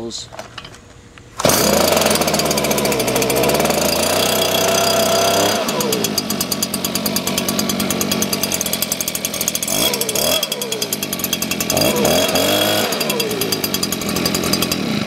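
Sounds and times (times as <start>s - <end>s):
leaf blower engine idling: 1.4s - 15.0s.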